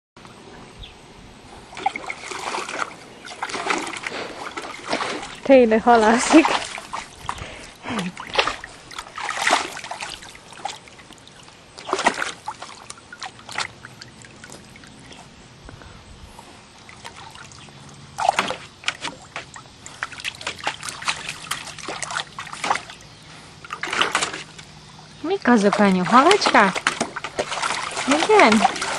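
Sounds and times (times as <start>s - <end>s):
water splashing in a pool: 1.5s - 15.6s, 16.6s - 28.9s
water trickling: 1.5s - 16.0s, 16.6s - 28.9s.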